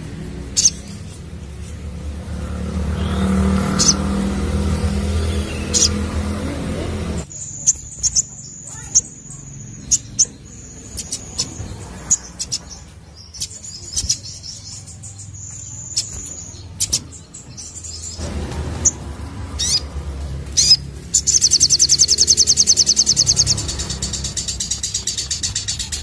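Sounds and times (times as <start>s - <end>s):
bird chirping and trilling: 0.1s - 26.0s.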